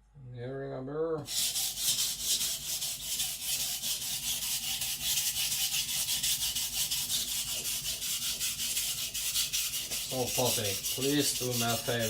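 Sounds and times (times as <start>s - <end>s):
knife scraping on whetstone: 1.3s - 12.0s.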